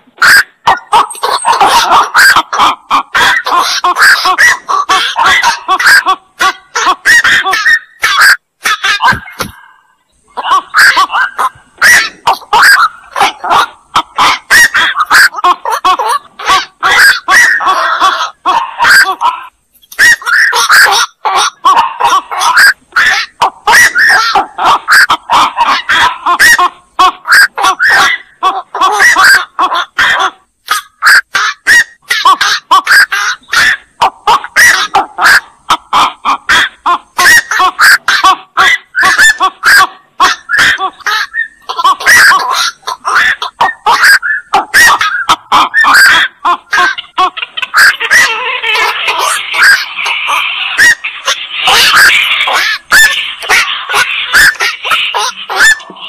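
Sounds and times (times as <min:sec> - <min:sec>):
herons squawking: 0:00.0 - 0:56.0.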